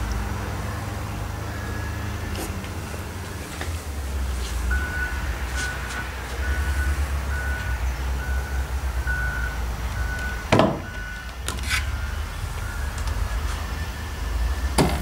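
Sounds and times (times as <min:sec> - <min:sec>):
reversing alarm beeping: 0:00.4 - 0:03.6, 0:04.6 - 0:15.0.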